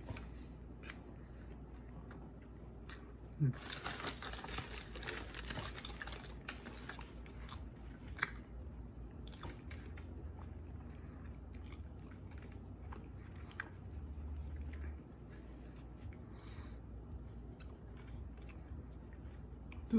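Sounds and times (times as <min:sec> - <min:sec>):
person chewing food: 0:00.0 - 0:19.9.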